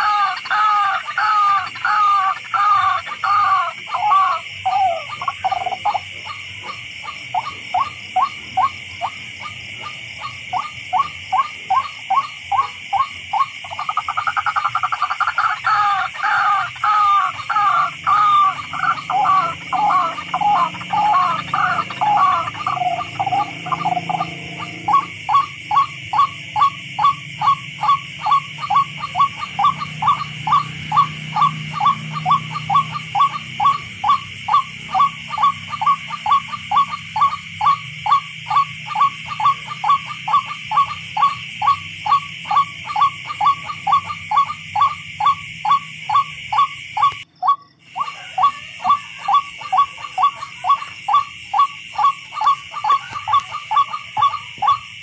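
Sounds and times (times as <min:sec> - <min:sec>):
rail bird croaking calls: 0:00.0 - 0:55.0.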